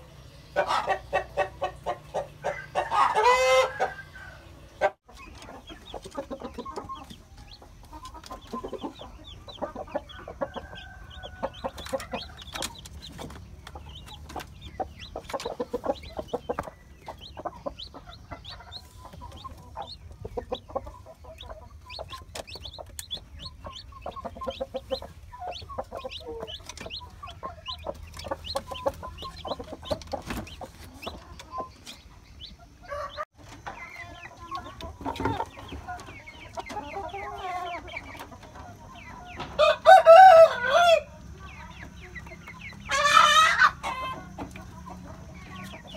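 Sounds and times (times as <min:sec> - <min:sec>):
chickens clucking: 0:00.0 - 0:45.9
chicks peeping: 0:00.0 - 0:45.9.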